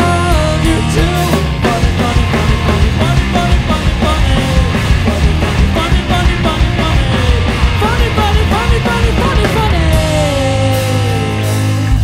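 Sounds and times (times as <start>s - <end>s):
electric guitars: 0.0s - 12.0s
rock band playing loudly: 0.0s - 12.0s.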